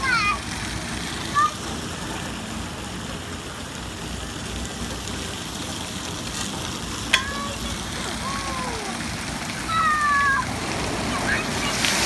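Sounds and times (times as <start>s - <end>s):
water jets spraying: 0.0s - 12.0s.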